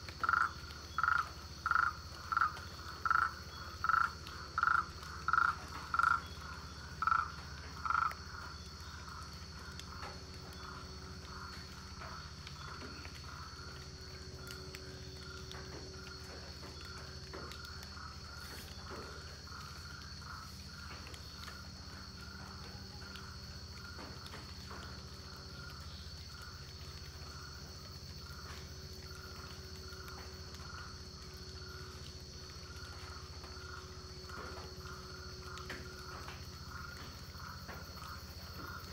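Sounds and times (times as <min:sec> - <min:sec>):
frogs croaking: 0:00.0 - 0:38.9
high insect drone: 0:00.0 - 0:38.9.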